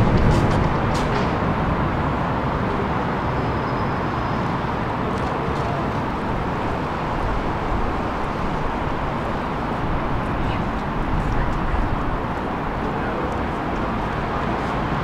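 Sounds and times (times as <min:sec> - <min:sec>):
urban background rumble: 0:00.0 - 0:15.0.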